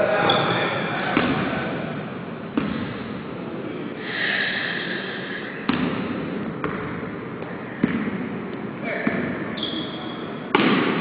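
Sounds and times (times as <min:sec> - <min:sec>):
gym hall noise: 0:00.0 - 0:11.0.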